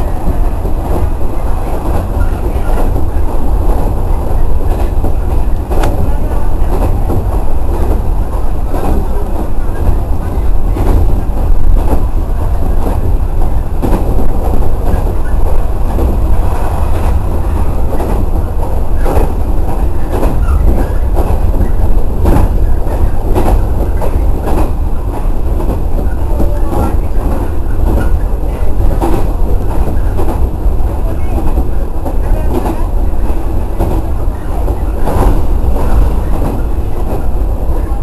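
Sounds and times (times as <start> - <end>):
train running rumble: 0.0 - 38.0.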